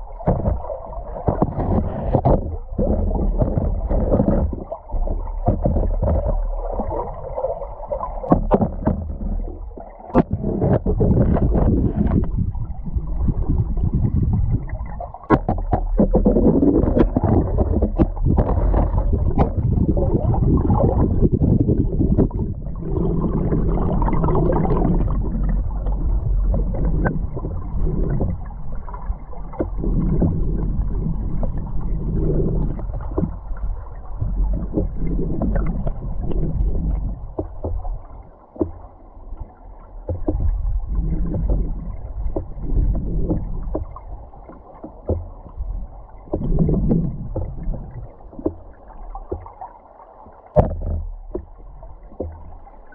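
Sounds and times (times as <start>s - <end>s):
muffled underwater river rushing: 0.0s - 52.9s.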